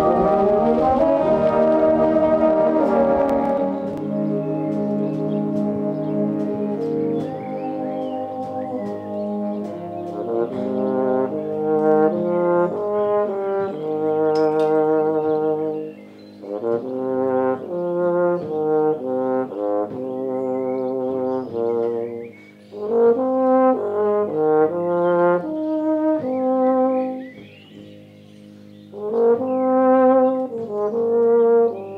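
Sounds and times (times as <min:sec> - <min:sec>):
euphonium playing slow melody: 0:00.0 - 0:31.9
wind band low accompaniment: 0:00.0 - 0:31.9.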